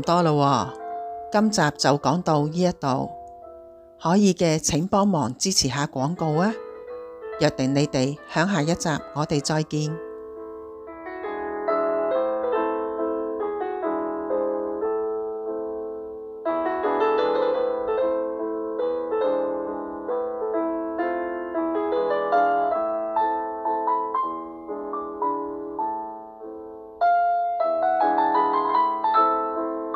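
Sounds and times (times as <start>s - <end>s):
gentle piano melody: 0.0s - 29.9s.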